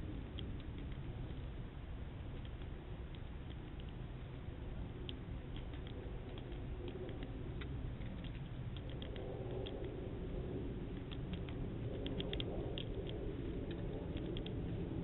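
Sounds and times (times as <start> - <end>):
low background rumble: 0.0 - 15.0
birds pecking at feeder: 2.2 - 15.0.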